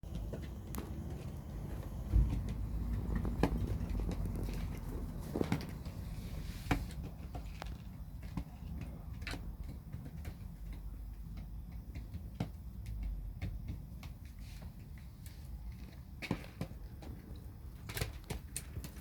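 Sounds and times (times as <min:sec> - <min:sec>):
pigeons tapping and clicking: 0:00.0 - 0:19.0.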